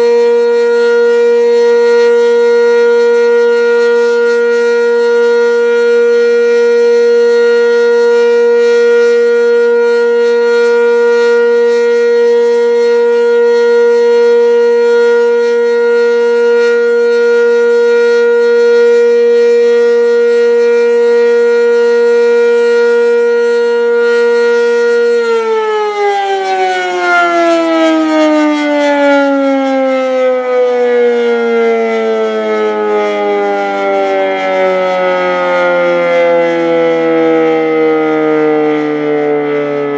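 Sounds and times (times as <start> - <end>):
warning siren winding down: 0.0 - 39.9.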